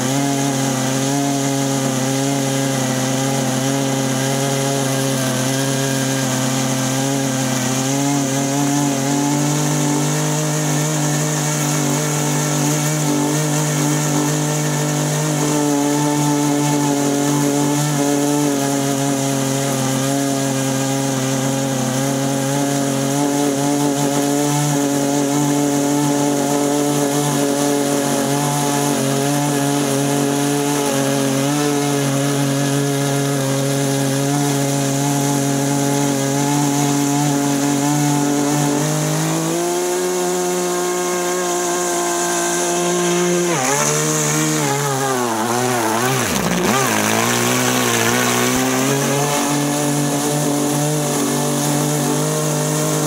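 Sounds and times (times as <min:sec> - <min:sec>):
model engine running steadily: 0:00.0 - 0:53.0.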